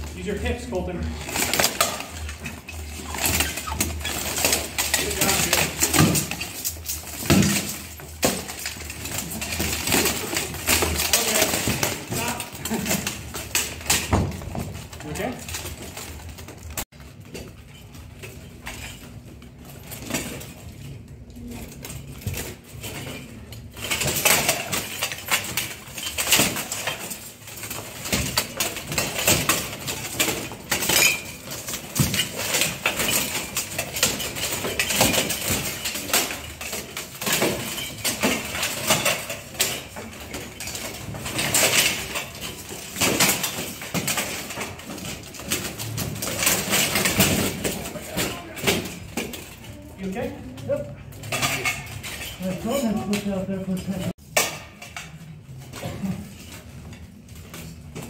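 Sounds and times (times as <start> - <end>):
plate armour clanking: 0.1 - 16.8, 22.2 - 53.4.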